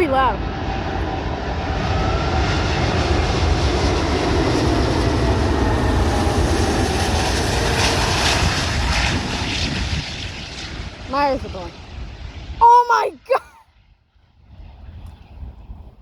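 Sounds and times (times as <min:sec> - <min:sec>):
jet airliner passing low: 0:00.0 - 0:16.0.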